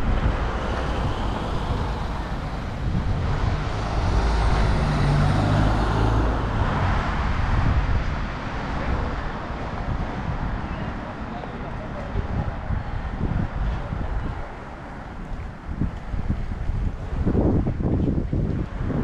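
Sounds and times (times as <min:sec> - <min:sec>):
tyre noise on road: 0:00.0 - 0:19.0
vehicle engines: 0:00.0 - 0:19.0.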